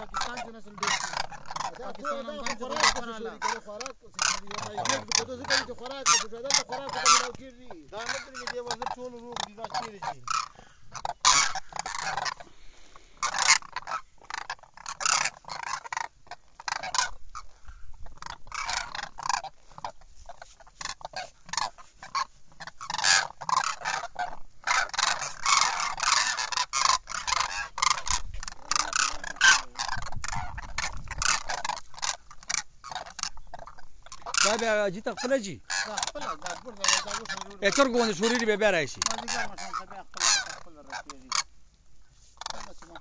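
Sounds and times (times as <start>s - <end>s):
cranes calling: 0.0s - 43.0s.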